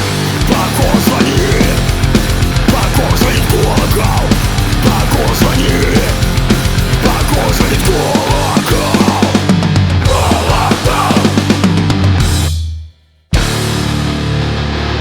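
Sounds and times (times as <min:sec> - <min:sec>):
heavy punk rock music: 0:00.0 - 0:15.0.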